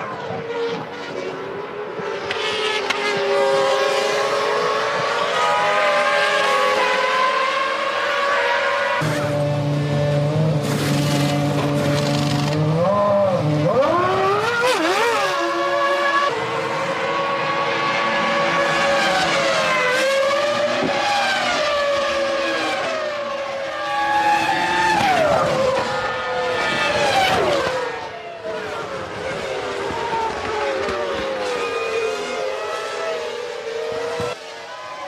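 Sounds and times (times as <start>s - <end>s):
racing car engines screaming: 0.0s - 35.0s.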